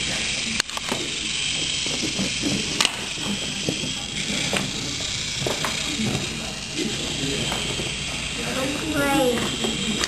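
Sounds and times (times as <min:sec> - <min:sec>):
toy train motor running: 0:00.0 - 0:10.0.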